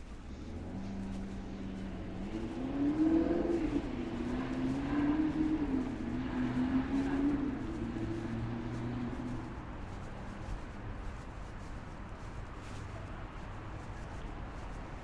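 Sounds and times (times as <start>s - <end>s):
vehicle engine revving: 0.0s - 14.7s.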